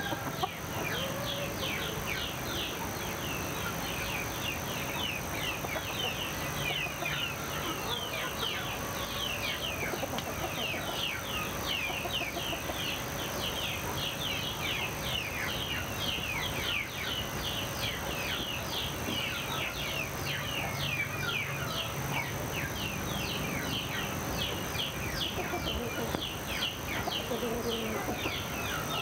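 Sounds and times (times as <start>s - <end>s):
chickens clucking: 0.0s - 22.8s, 23.5s - 29.0s
small birds chirping: 0.0s - 29.0s.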